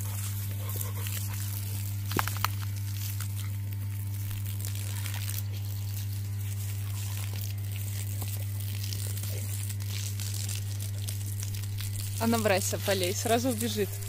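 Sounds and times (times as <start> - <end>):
low electric hum: 0.0 - 14.0
water spraying from hose: 0.0 - 14.0.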